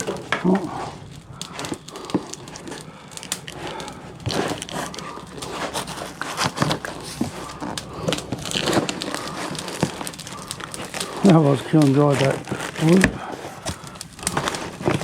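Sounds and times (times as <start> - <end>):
bag rustling and crinkling: 0.0 - 15.0
charcoal pieces knocking: 0.0 - 15.0.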